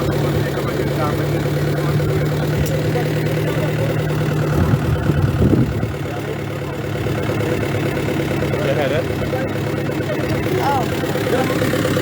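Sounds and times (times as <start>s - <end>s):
vehicle engine idling: 0.0s - 12.0s
voices: 0.0s - 12.0s.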